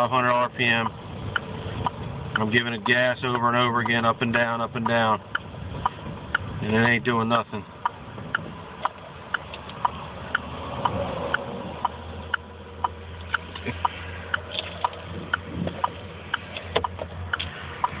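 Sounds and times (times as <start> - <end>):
steady ticking: 0.0 - 18.0.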